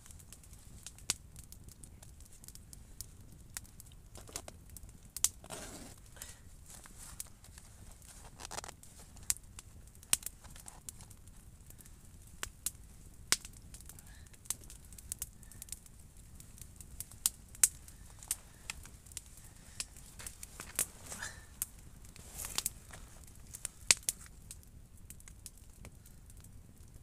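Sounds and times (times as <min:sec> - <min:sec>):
faint low hiss: 0:00.0 - 0:27.0
sharp crackles and clicks: 0:00.0 - 0:27.0.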